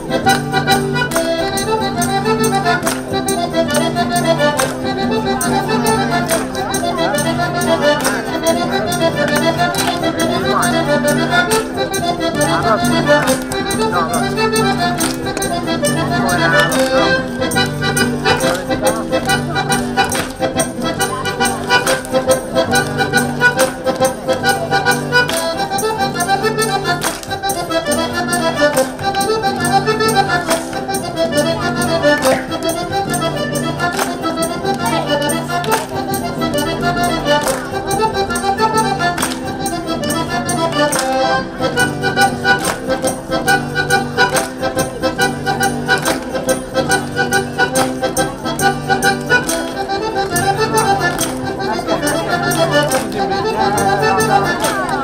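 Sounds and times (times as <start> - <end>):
accordion folk-dance tune: 0.0 - 55.0.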